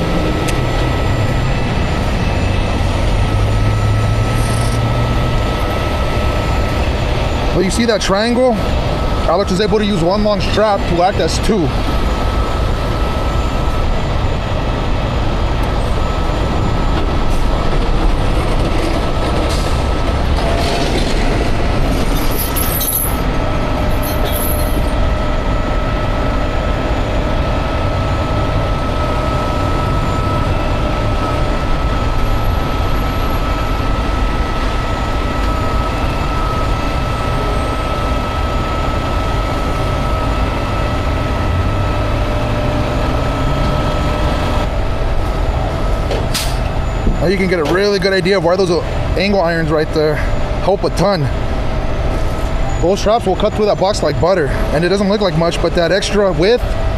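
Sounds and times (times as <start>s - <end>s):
diesel engine running under load: 0.0s - 56.9s
high engine whine: 0.0s - 56.9s.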